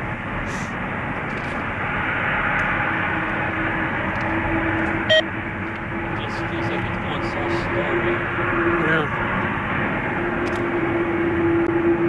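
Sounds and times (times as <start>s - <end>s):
jet engines rushing and whining: 0.0s - 12.0s.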